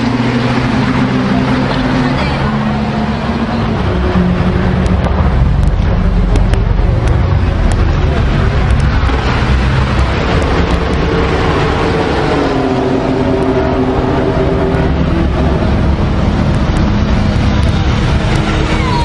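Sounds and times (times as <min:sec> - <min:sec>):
engine revving as car pulls away: 0:00.0 - 0:19.0
sports car engines rumbling: 0:00.0 - 0:19.0.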